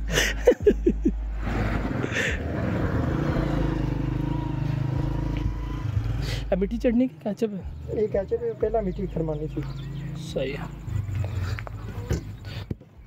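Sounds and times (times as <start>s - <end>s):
motorcycle engine passing by: 1.4s - 12.6s.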